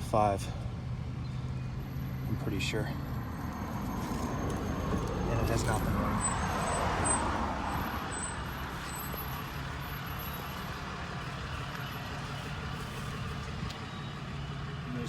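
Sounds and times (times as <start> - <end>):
outdoor background rumble and hiss: 0.0 - 15.0.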